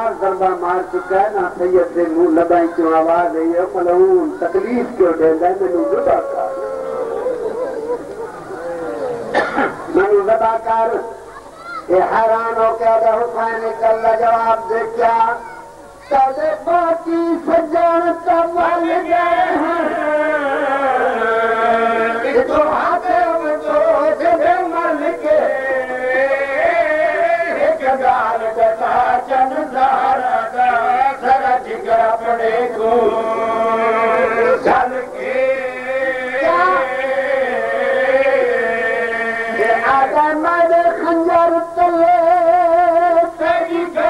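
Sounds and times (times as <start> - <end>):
man chanting through amplifier: 0.0 - 44.0.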